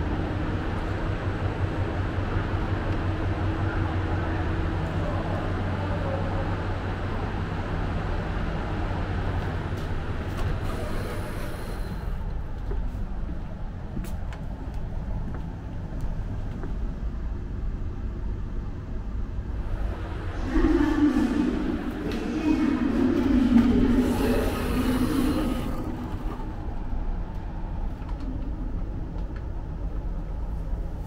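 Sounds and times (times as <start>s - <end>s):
standing train humming: 0.0s - 31.0s.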